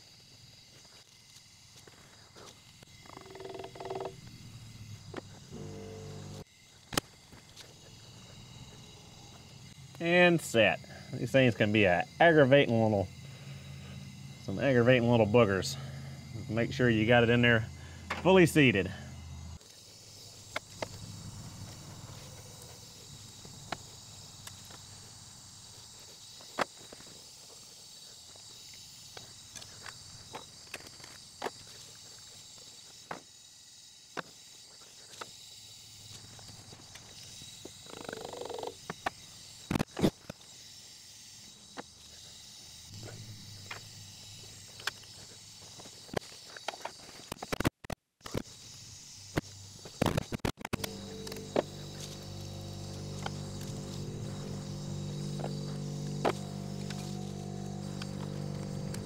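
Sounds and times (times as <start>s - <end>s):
steady high-pitched hiss: 0.0s - 47.4s, 48.2s - 59.0s.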